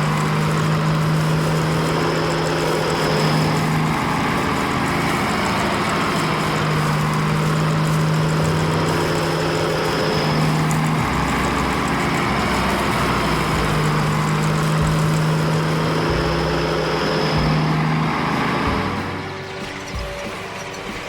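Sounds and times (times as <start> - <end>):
farm vehicle engine running: 0.0 - 21.0.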